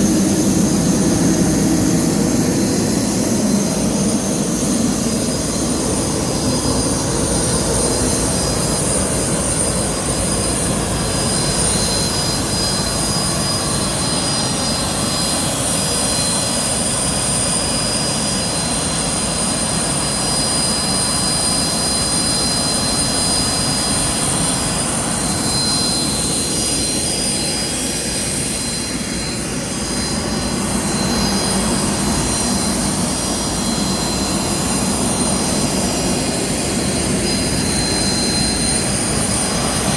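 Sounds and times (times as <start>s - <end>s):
jet aircraft whine: 0.0s - 39.9s.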